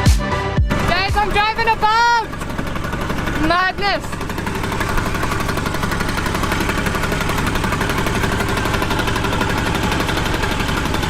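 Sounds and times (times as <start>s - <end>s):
speedboat engine running: 0.7s - 11.0s.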